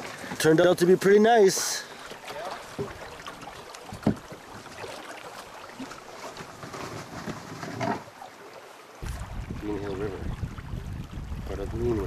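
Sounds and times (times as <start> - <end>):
paddle strokes splashing: 0.0 - 12.0
water lapping against hull: 0.0 - 12.0.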